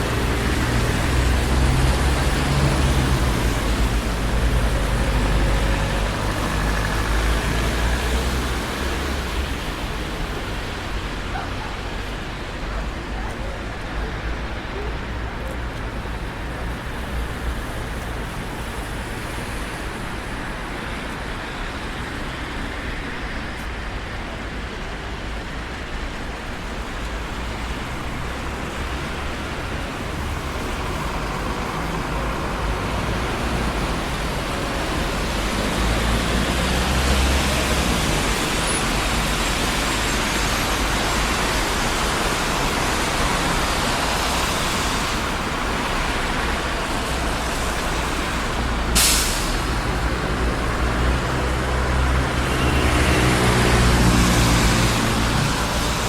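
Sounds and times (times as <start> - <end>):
passing cars rumble and tyre hiss: 0.0 - 56.0.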